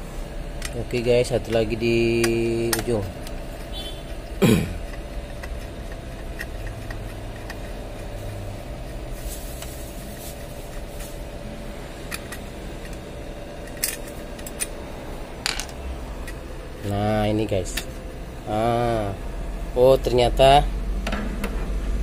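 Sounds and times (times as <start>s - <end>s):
photocopier humming: 0.0s - 22.0s.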